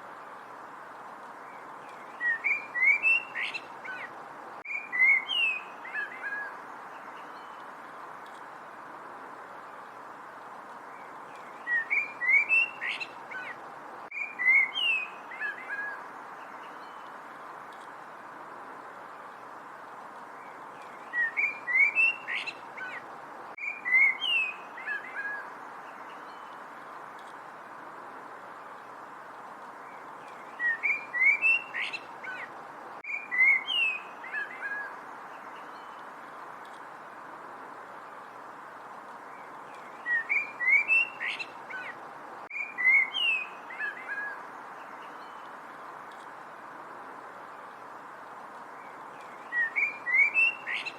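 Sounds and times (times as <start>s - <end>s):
songbird chirping: 0.0s - 50.9s
steady background hiss: 0.0s - 50.9s.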